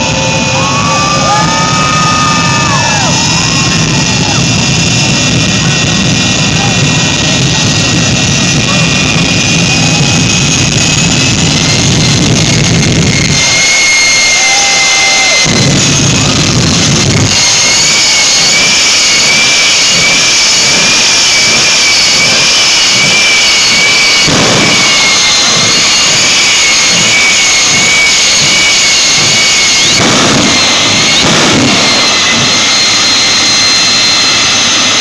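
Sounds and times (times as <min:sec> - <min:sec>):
jet engine roaring with whine: 0:00.0 - 0:35.0.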